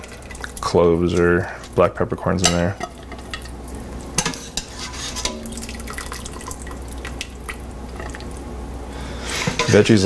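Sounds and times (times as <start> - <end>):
broth dripping into pot: 0.0 - 1.8, 2.4 - 9.7
steady low hum: 0.0 - 10.0.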